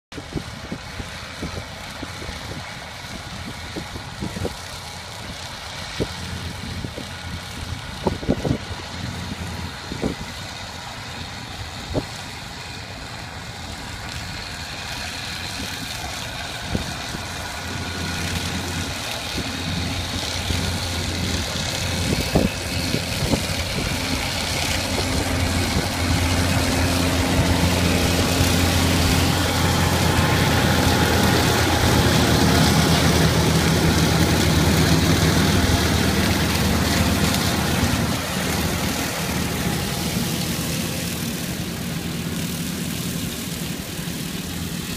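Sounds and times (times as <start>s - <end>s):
tractor engine under load: 0.1s - 44.9s.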